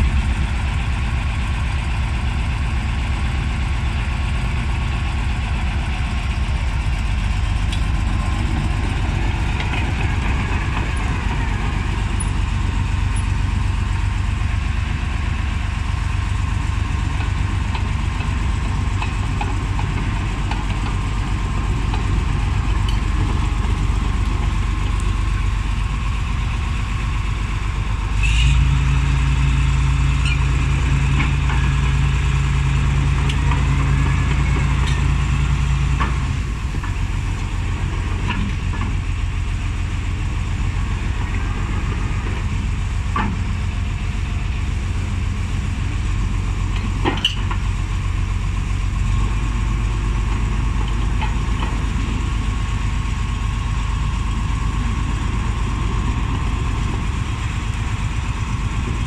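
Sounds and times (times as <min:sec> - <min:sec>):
bulldozer diesel engine idling: 0:00.0 - 0:59.0.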